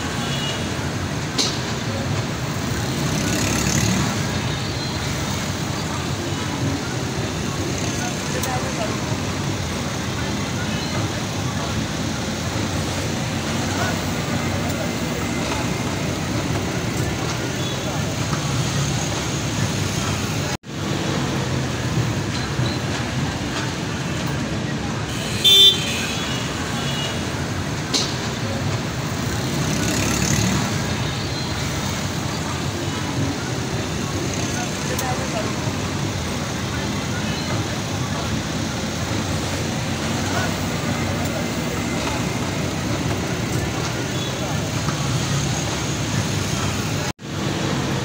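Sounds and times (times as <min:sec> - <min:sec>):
road traffic noise: 0:00.0 - 0:48.0
motorcycle and car engines passing: 0:01.0 - 0:22.2, 0:26.6 - 0:48.0.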